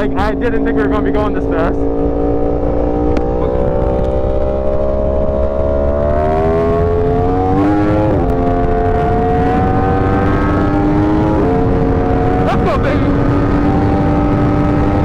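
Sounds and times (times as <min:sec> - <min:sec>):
low wind rumble: 0:00.0 - 0:15.0
motorcycle engine accelerating: 0:00.0 - 0:15.0.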